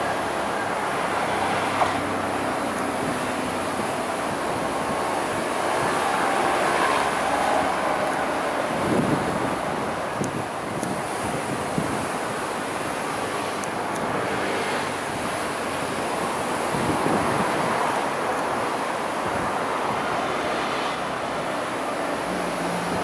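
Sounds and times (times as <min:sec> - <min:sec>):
faint diesel train approaching: 0:00.0 - 0:23.0
sea surf breaking: 0:00.0 - 0:23.0
wind on microphone: 0:00.0 - 0:23.0.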